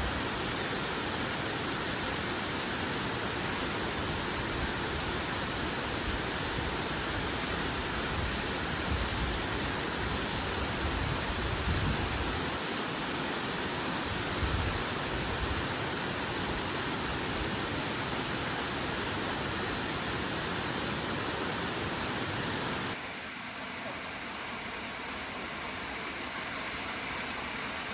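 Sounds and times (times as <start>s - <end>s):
waterfall rushing and splashing: 0.0s - 27.9s.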